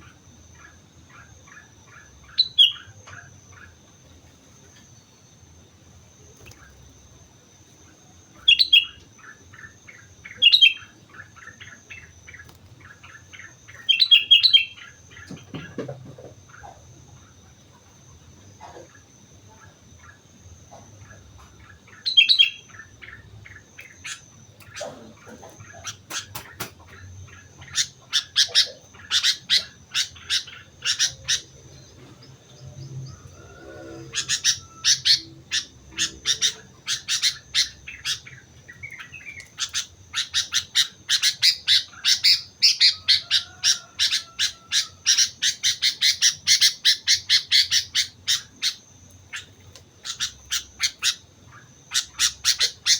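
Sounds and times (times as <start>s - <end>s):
bird chirping: 0.0s - 52.9s.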